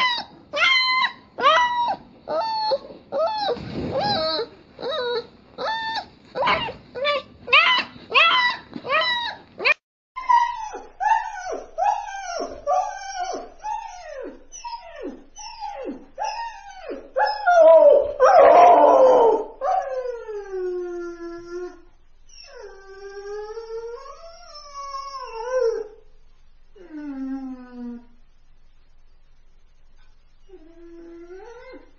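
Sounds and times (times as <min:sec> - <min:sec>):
puppy whimpering and whining: 0:00.0 - 0:26.0, 0:26.8 - 0:28.1, 0:30.5 - 0:31.9.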